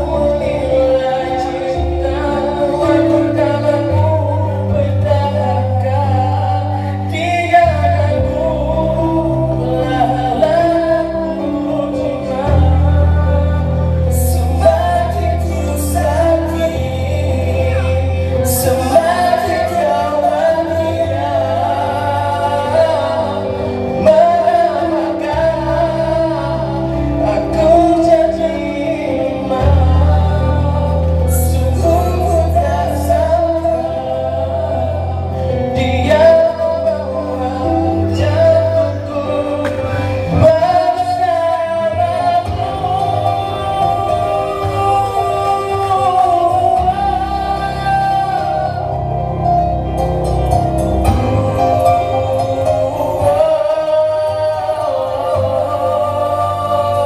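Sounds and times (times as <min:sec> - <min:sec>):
amplified backing music: 0:00.0 - 0:57.0
man singing into microphone: 0:00.0 - 0:57.0.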